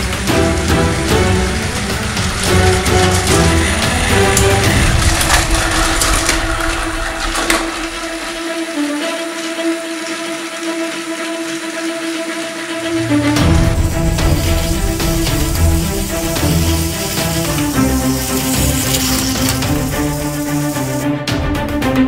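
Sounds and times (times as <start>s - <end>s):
toy train motors whirring: 0.0s - 11.4s, 13.3s - 21.1s.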